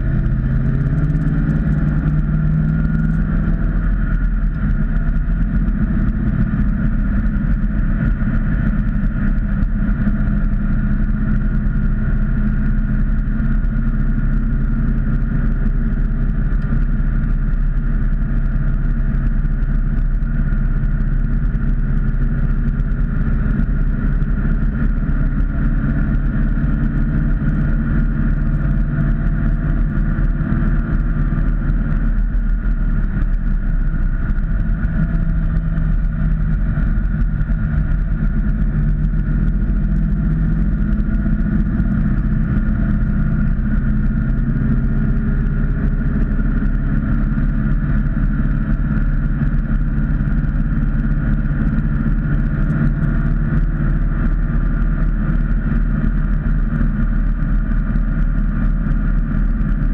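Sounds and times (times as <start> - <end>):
car engine drone from inside cabin: 0.0 - 59.9.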